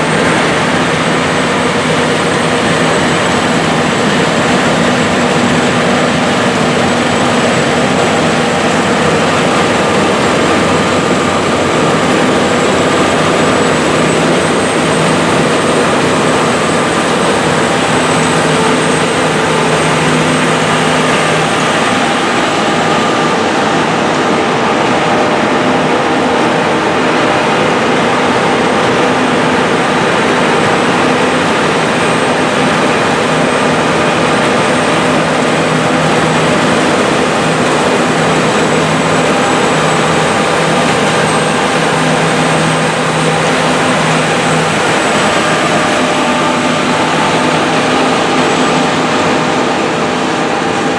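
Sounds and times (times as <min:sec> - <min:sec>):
combine harvester droning: 0:00.0 - 0:50.9.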